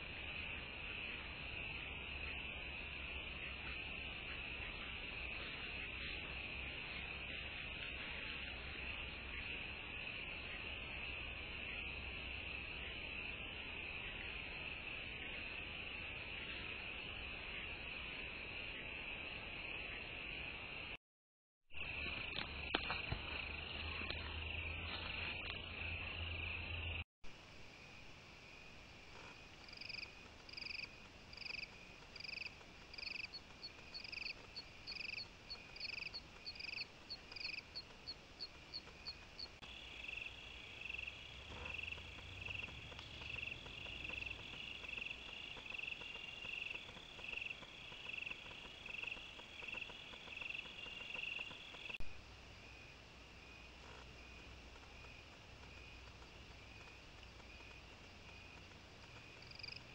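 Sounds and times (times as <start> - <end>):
crickets chirping: 0.0 - 20.9, 21.8 - 59.9.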